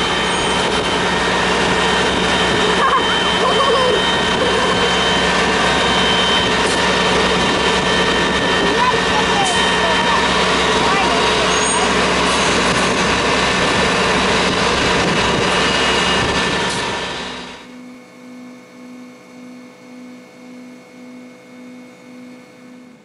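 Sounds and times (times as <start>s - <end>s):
diesel engine drone: 0.0s - 23.0s
low pulsing tone: 0.0s - 23.0s.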